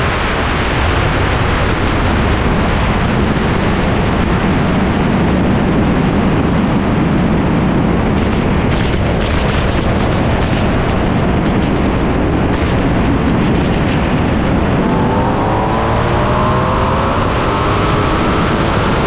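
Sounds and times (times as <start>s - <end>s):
low engine drone: 0.0s - 19.0s
wind buffeting microphone: 0.0s - 19.0s.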